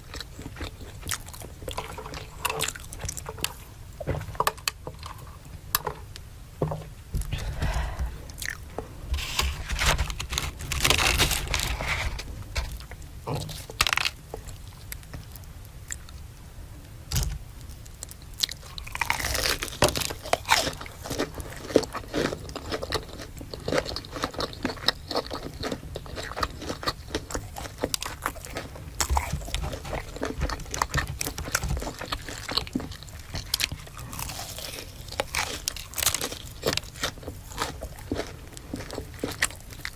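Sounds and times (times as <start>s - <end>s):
chewing crunchy food: 0.0s - 6.1s, 7.2s - 16.3s, 17.1s - 39.9s.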